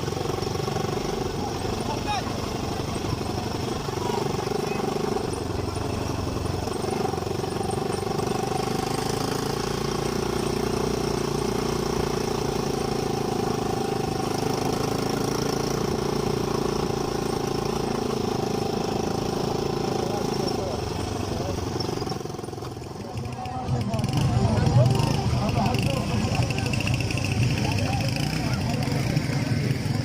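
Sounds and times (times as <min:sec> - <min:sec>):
steady engine-like hum: 0:00.0 - 0:30.0.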